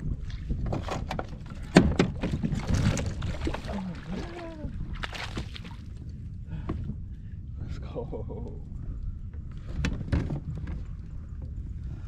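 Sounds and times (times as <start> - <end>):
clatter and rustling on kayak: 0.0 - 7.8, 8.8 - 11.9.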